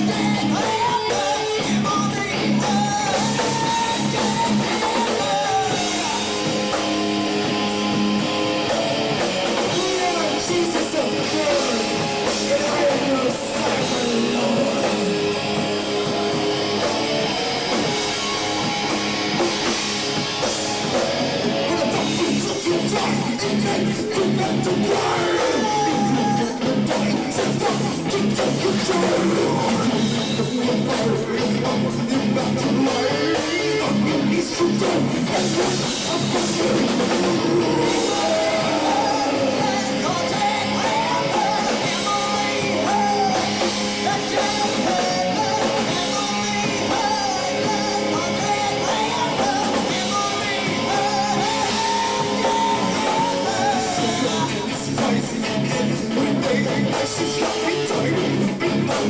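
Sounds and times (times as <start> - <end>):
rock band playing: 0.0 - 59.0.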